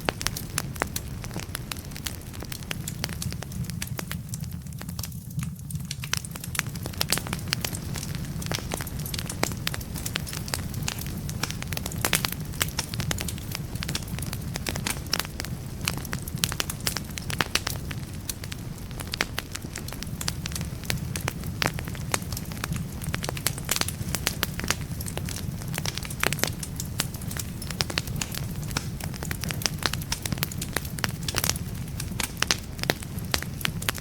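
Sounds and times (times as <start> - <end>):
flames low roar: 0.0 - 34.0
wood fire crackling: 0.0 - 34.0.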